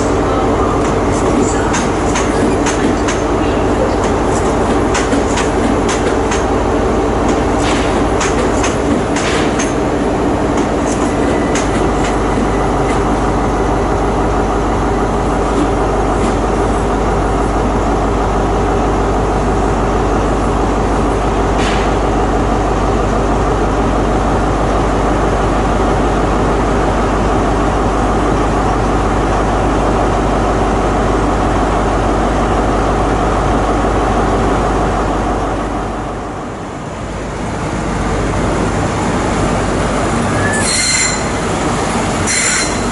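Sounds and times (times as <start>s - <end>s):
train droning: 0.0s - 42.9s.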